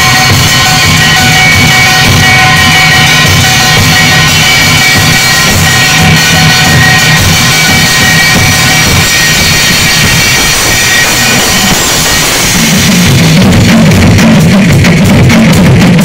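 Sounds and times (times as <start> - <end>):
cymbals crashing: 0.0 - 16.0
drum kits playing: 0.0 - 16.0
heavy drum strokes: 0.0 - 16.0.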